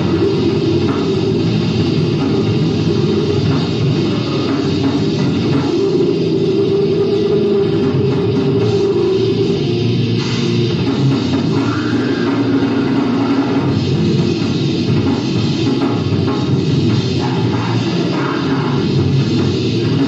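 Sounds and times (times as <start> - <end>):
grindcore band playing live: 0.0 - 20.0.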